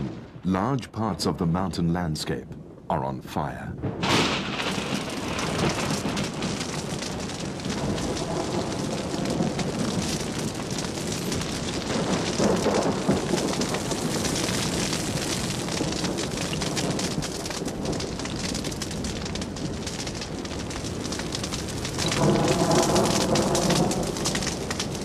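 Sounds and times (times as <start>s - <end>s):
thunder rumble: 0.0s - 2.9s, 3.5s - 25.0s
bush fire crackling: 3.9s - 25.0s.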